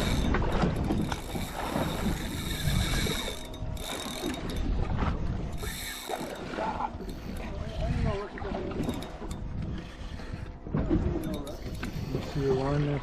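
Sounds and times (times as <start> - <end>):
fishing reel ratcheting: 0.0 - 4.8, 5.4 - 10.5, 11.2 - 12.5.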